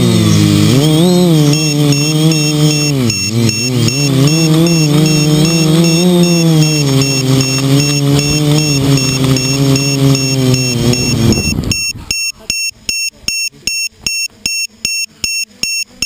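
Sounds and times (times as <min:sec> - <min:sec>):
quadcopter motors whining: 0:00.0 - 0:16.0
short high electronic beeps: 0:01.5 - 0:16.0.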